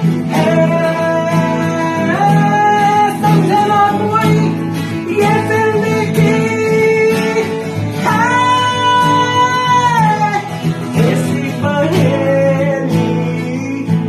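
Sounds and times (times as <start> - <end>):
guitar strummed: 0.0 - 14.0.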